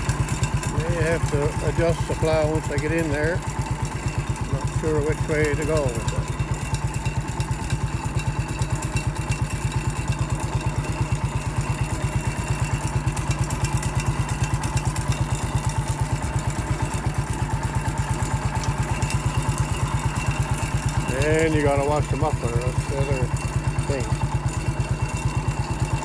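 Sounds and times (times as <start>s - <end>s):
bulldozer engine running: 0.0s - 26.0s.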